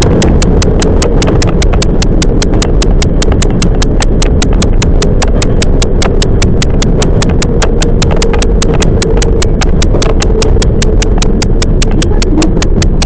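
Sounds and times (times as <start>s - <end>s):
fast even clicking: 0.0s - 13.0s
train wheels rumbling: 0.0s - 13.0s.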